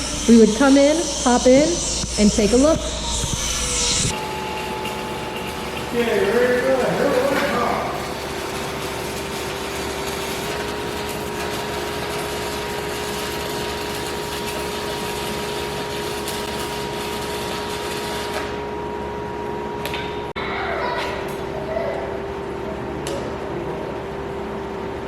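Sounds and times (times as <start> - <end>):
welding arc hissing and crackling: 0.0 - 20.3
mechanical hum: 0.0 - 25.0.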